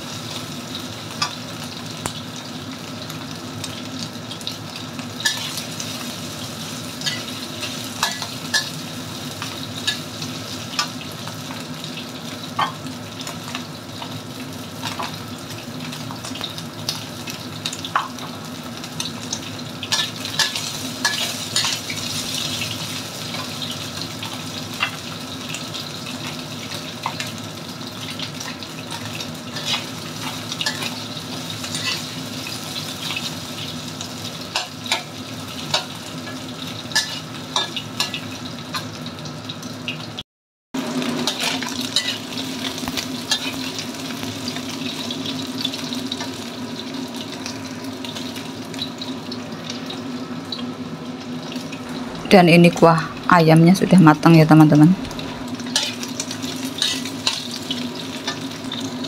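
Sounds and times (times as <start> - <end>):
chicken sizzling in a wok: 0.0 - 40.2, 40.8 - 59.0.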